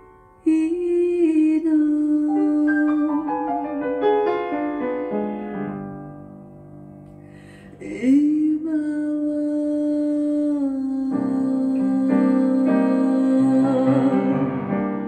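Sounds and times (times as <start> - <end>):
piano playing a slow ballad: 0.0 - 8.5, 10.2 - 15.0.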